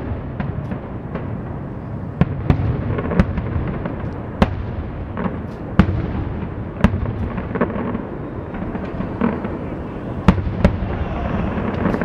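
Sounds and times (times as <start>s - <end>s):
fireworks bangs: 0.0s - 12.0s
small fireworks pops: 0.0s - 12.0s.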